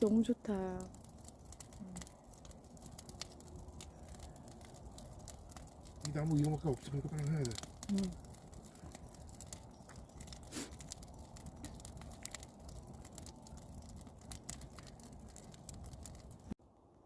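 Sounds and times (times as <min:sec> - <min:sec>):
campfire crackling: 0:00.0 - 0:16.6.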